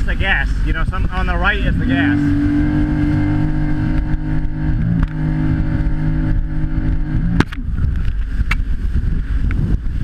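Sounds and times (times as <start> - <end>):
jet ski engine running: 0.0 - 10.0
rough low rumble: 0.0 - 10.0.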